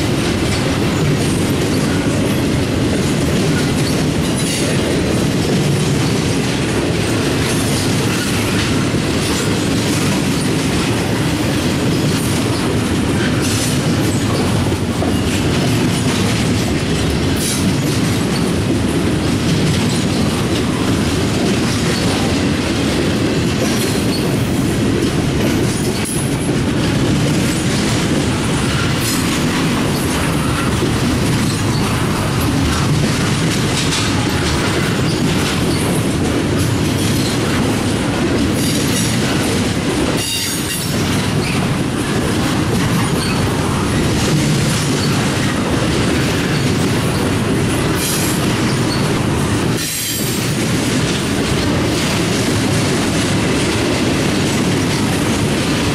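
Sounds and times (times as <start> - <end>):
train clicks: 0.0 - 55.9
train wheels rumbling on rail: 0.0 - 55.9.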